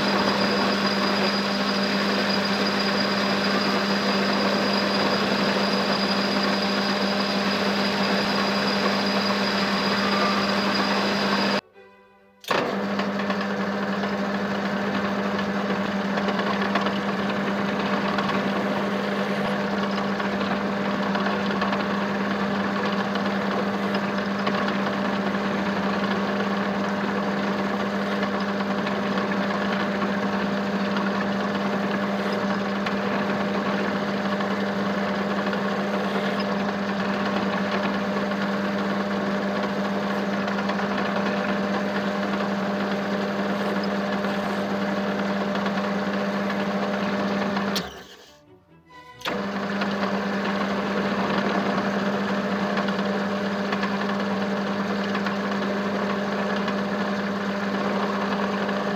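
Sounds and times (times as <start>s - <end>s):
metal lathe humming: 0.0s - 11.6s, 12.4s - 48.3s, 48.9s - 58.9s.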